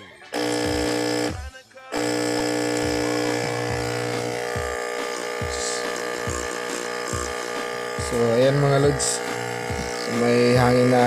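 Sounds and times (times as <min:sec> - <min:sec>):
air pump electric buzz: 0:00.3 - 0:11.0.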